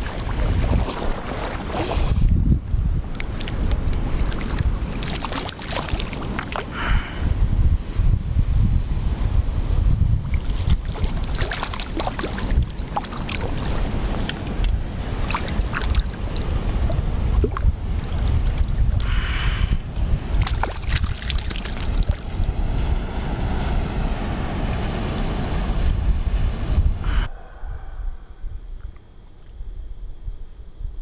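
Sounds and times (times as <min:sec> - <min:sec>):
wind noise on microphone: 0:00.0 - 0:31.0.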